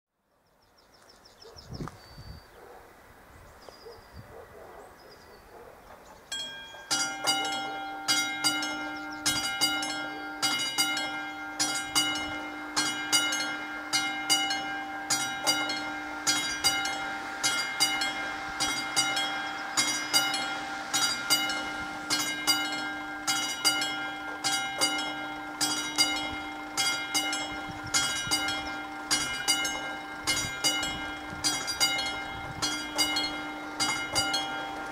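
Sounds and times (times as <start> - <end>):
level crossing electric bell ringing: 6.3 - 34.9.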